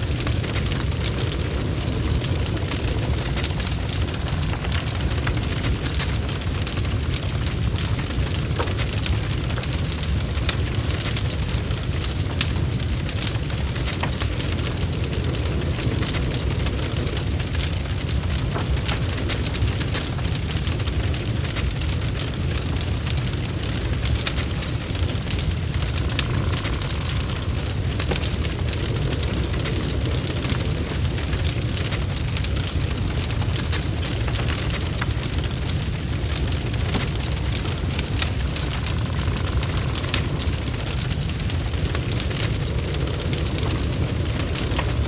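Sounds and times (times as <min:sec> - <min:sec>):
fire crackles and pops: 0:00.0 - 0:45.0
low rumble of fire: 0:00.0 - 0:45.0.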